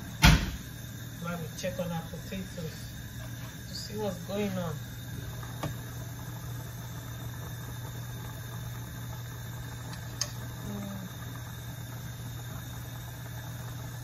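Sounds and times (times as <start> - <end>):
pot boiling with hum and hiss: 0.0 - 14.0.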